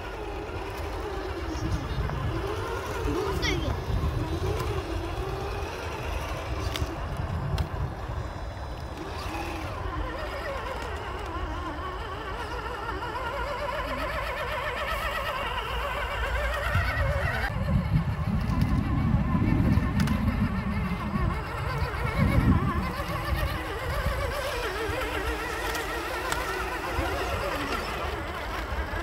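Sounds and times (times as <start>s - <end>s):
toy car motor whine: 0.0s - 29.0s.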